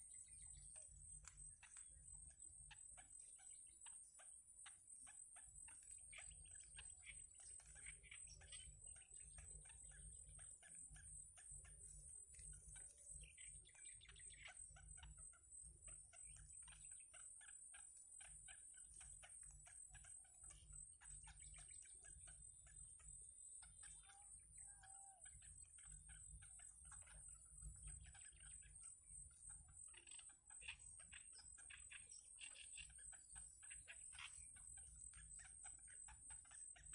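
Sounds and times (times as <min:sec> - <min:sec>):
bird chicks ticking calls: 0:00.0 - 0:36.9.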